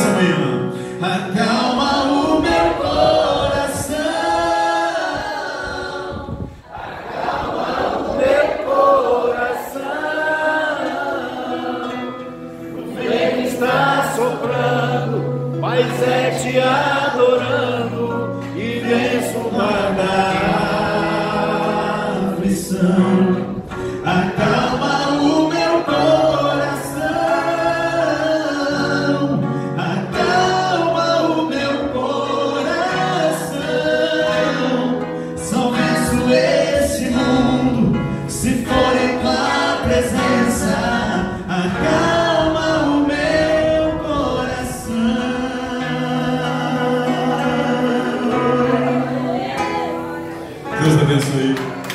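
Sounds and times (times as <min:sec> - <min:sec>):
men singing gospel song: 0:00.0 - 0:51.6
acoustic guitar: 0:00.0 - 0:51.9.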